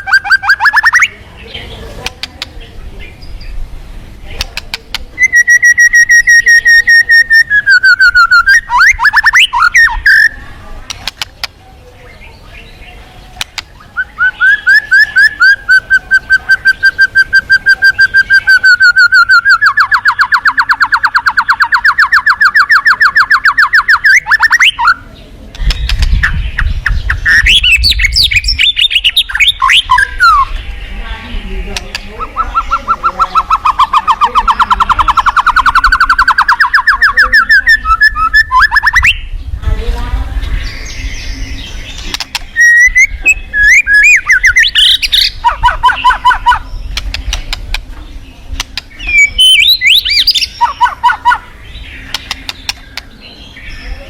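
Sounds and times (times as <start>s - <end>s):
bird singing fast trills: 0.0s - 3.7s, 4.6s - 39.6s, 40.5s - 54.0s.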